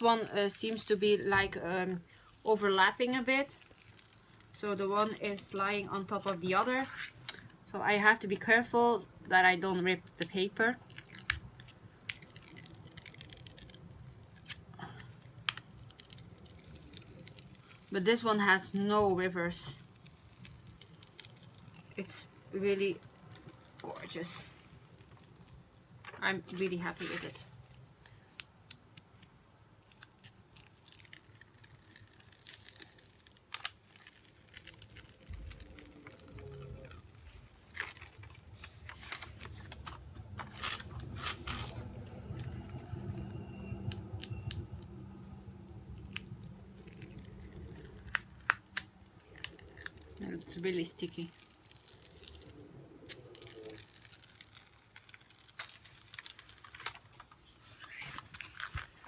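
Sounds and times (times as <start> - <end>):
paper crinkling and crackling: 0.0 - 7.6, 10.1 - 59.0.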